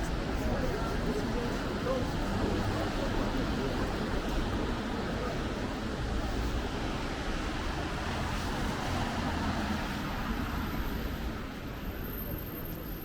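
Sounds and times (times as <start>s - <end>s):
passing cars rumble and hiss: 0.1s - 13.0s.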